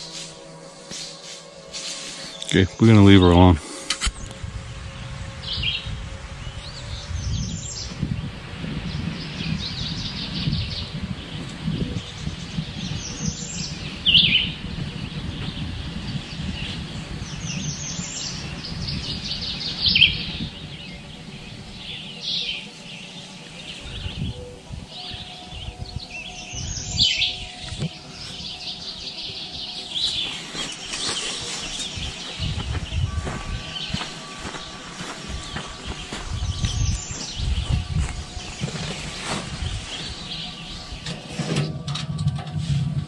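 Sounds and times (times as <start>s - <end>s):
songbirds singing: 0.0s - 42.0s
low outdoor rumble: 0.0s - 43.0s.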